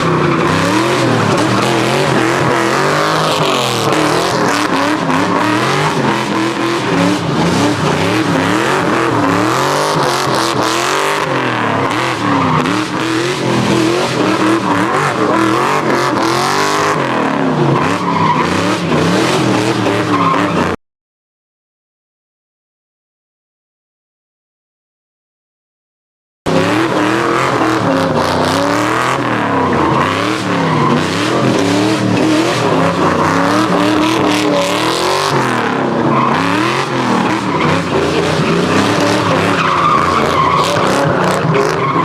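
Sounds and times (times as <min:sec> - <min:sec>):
car engine revving: 0:00.0 - 0:20.8, 0:26.5 - 0:42.0.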